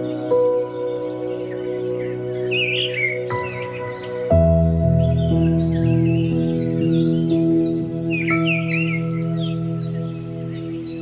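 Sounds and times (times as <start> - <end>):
birdsong chirps: 0.0 - 11.0
sustained ambient music chord: 0.0 - 11.0.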